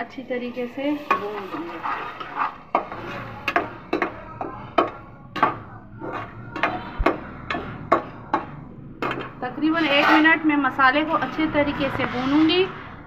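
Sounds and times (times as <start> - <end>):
metal spoon scraping steel pan: 0.2 - 13.0.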